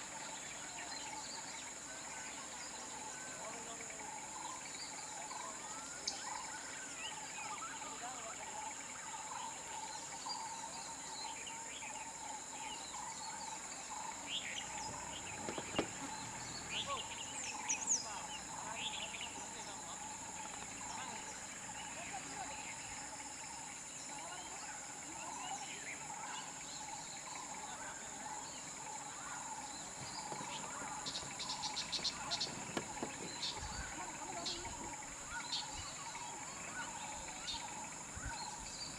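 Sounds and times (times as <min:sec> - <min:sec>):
bird calls: 0:00.0 - 0:38.9
insects droning high-pitched: 0:00.0 - 0:38.9
low pulsing insect chirr: 0:00.0 - 0:38.9.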